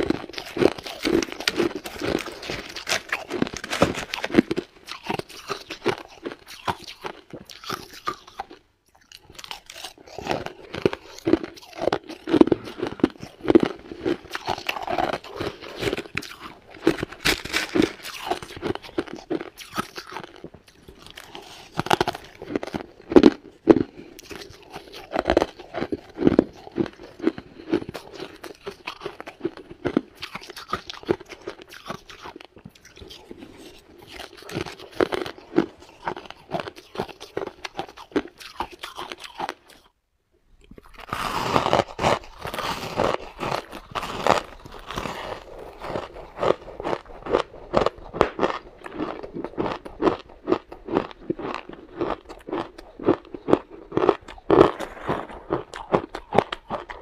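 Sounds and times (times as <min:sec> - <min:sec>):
ice crunching being chewed: 0:00.0 - 0:39.9, 0:40.6 - 0:57.0.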